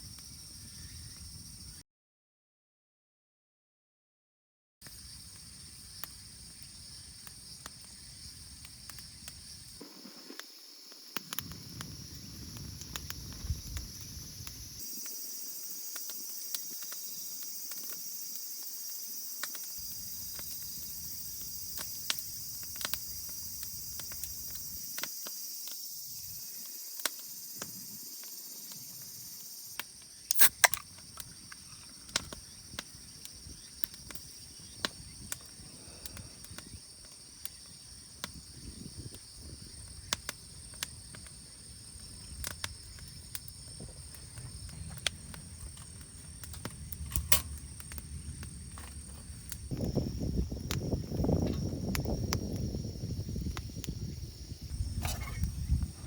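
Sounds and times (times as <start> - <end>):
insects trilling: 0.0 - 1.8, 4.8 - 56.0.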